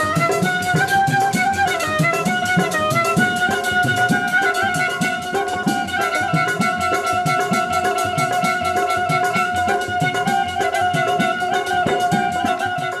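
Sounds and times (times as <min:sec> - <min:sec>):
double flute folk melody: 0:00.0 - 0:13.0
fast rhythmic strokes: 0:00.0 - 0:13.0.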